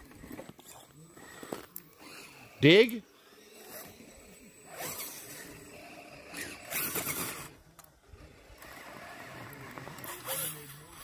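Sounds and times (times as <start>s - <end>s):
electric motor and drivetrain whining: 0.0s - 11.0s.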